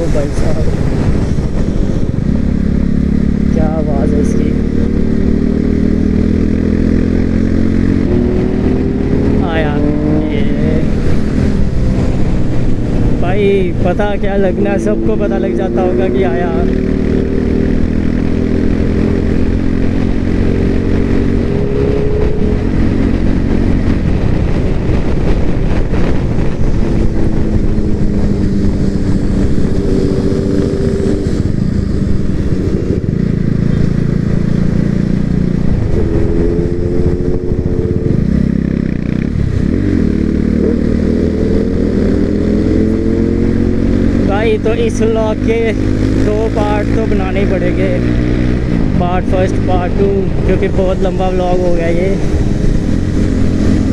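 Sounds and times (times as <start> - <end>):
motorcycle engine accelerating: 0.0 - 53.9
wind rushing: 0.0 - 53.9.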